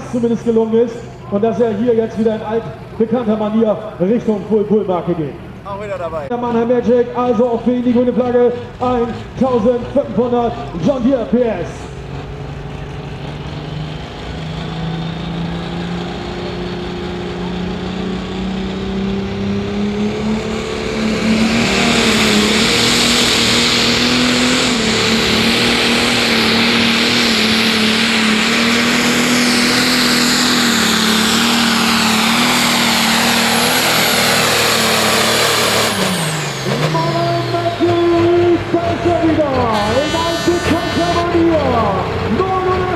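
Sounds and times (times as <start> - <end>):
diesel tractor engine at full throttle: 0.0 - 42.9
high turbo whine: 0.0 - 42.9.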